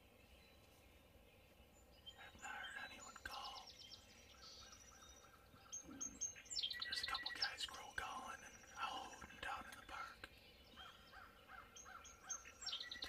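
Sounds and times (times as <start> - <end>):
songbird trilling: 2.0 - 13.0
short bird calls: 2.1 - 13.0.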